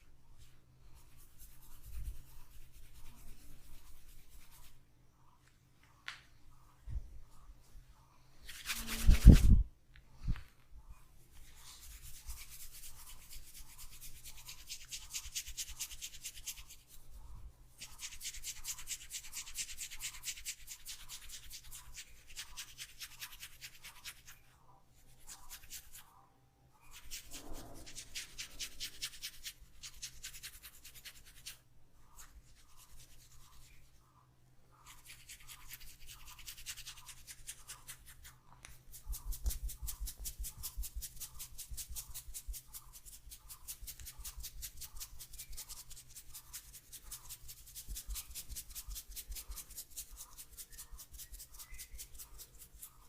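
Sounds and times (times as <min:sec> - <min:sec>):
hands rubbing hair and scalp: 0:00.0 - 0:04.8, 0:08.4 - 0:09.7, 0:11.3 - 0:26.1, 0:26.8 - 0:34.0, 0:34.8 - 0:53.0.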